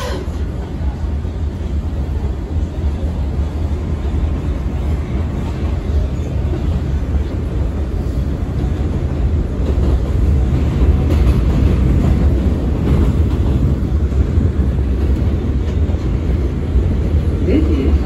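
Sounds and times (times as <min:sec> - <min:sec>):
subway train wheels rumbling on rail: 0:00.0 - 0:18.0.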